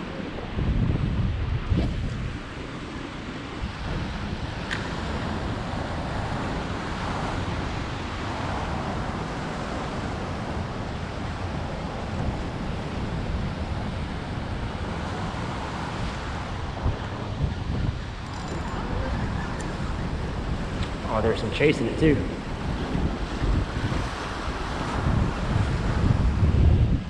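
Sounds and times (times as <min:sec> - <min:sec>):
ocean surf washing: 0:00.0 - 0:27.0
wind buffeting microphone: 0:00.0 - 0:27.0.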